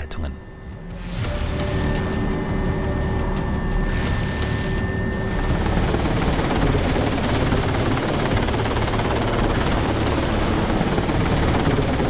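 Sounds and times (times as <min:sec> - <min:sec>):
helicopter rotor and turbines: 0:00.0 - 0:12.0.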